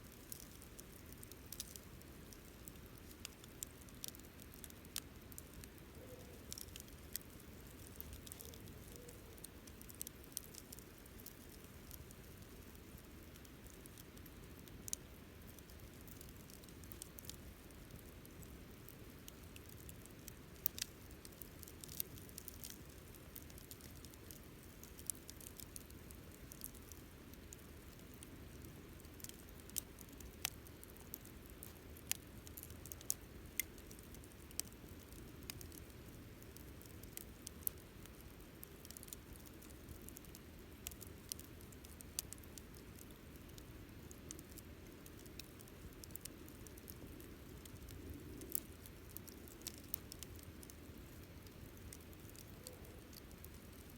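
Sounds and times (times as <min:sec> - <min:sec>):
campfire crackling: 0:00.0 - 0:53.9
fire snaps and pops: 0:00.0 - 0:53.9
low rumble of fire: 0:00.0 - 0:53.9.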